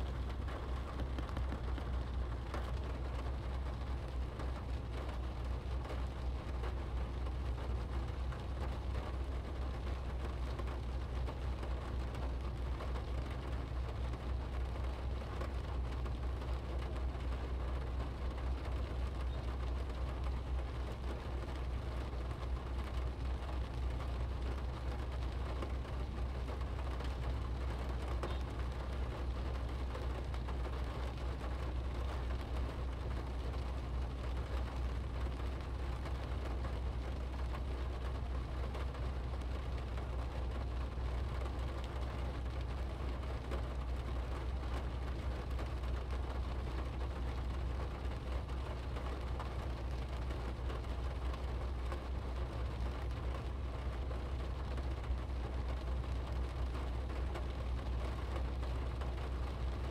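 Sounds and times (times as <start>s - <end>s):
low rumble of car and traffic: 0.0s - 59.9s
rain pattering on a car windshield: 0.0s - 59.9s.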